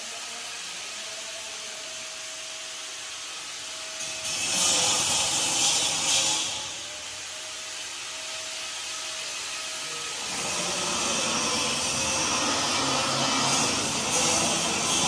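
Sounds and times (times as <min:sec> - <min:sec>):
angle grinder cutting steel: 0:02.7 - 0:15.0.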